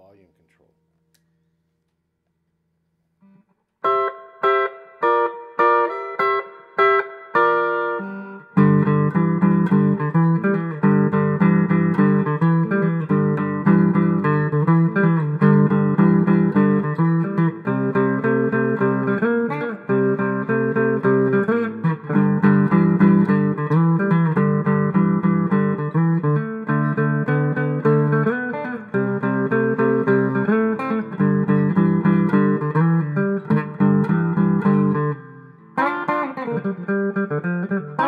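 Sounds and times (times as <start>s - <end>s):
clean electric guitar chords: 3.2s - 38.0s.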